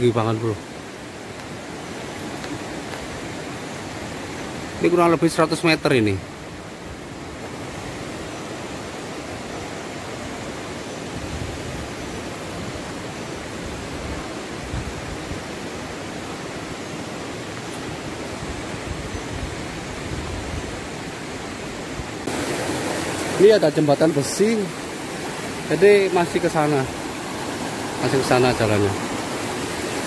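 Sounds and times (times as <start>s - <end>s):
waterfall: 0.0s - 30.0s.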